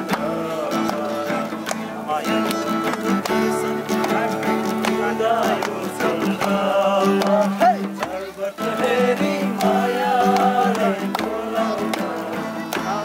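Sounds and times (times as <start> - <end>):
guitar: 0.0 - 13.0
percussion strikes: 0.0 - 13.0
person singing: 0.0 - 13.0.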